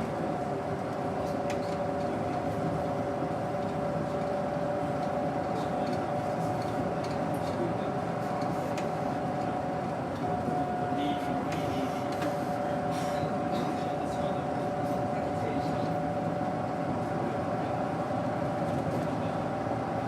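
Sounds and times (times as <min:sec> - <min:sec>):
bus engine rumbling: 0:00.0 - 0:20.0
constant engine whine: 0:00.0 - 0:20.0.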